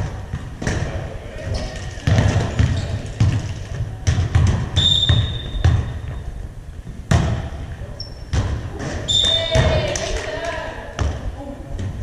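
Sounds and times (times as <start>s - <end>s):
volleyball bouncing on gym floor: 0.0s - 6.3s, 7.0s - 7.6s, 8.3s - 12.0s.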